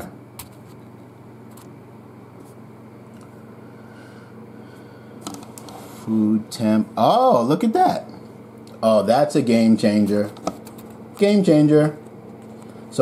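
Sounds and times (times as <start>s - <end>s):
oven convection fan whirring: 0.0s - 13.0s.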